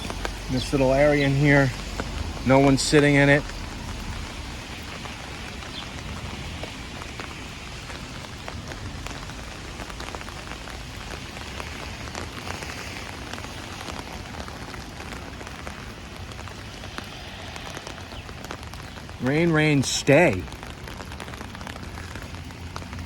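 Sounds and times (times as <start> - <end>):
raindrops ticking on surfaces: 0.0 - 23.0
steady rain falling: 0.0 - 23.0.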